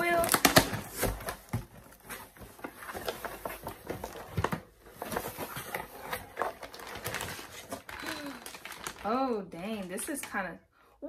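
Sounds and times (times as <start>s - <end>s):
hands rummaging in cardboard box: 0.0s - 9.1s
plastic bag rustling: 0.0s - 10.0s.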